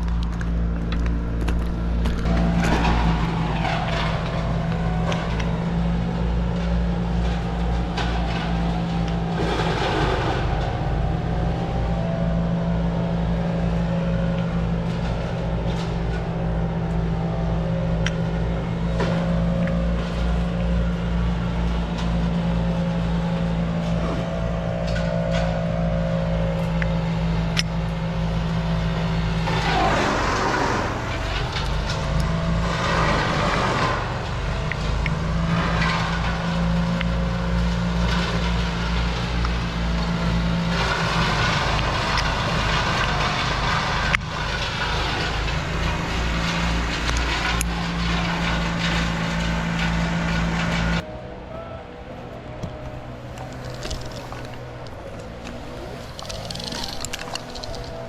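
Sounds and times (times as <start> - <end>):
engine running with pulsing note: 0.0 - 58.0.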